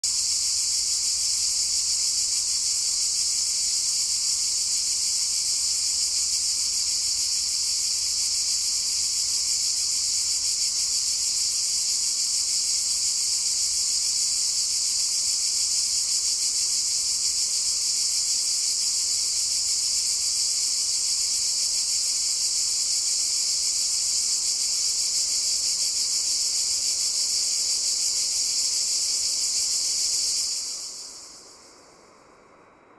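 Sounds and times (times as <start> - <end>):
cicadas droning: 0.0 - 32.9.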